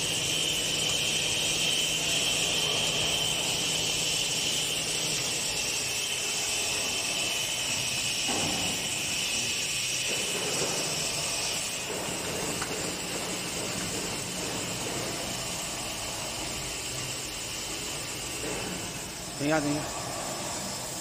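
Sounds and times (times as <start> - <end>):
bottle filling machine whirring: 0.0 - 21.0.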